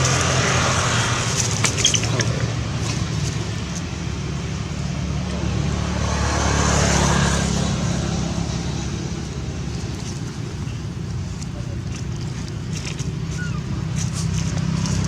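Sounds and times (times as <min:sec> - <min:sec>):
road traffic engine rumble: 0:00.0 - 0:15.0
vehicle passing by: 0:00.0 - 0:15.0.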